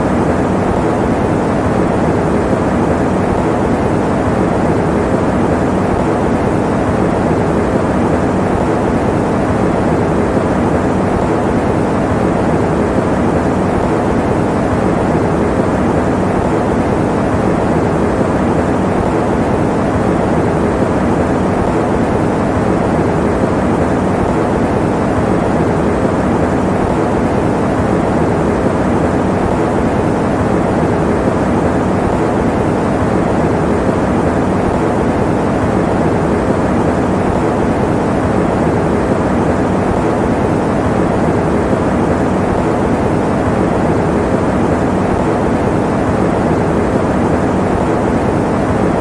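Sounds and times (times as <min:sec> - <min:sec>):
electric fan running: 0:00.0 - 0:49.0.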